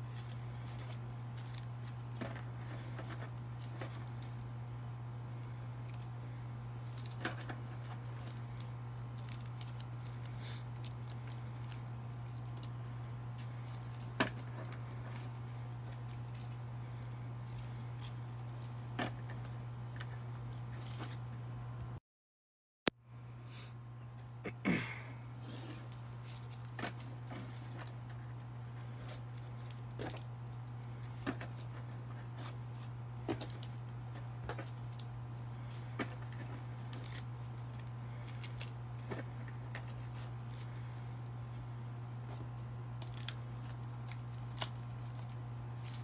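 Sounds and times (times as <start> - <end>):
steady low hum: 0.0 - 22.0, 22.9 - 46.0.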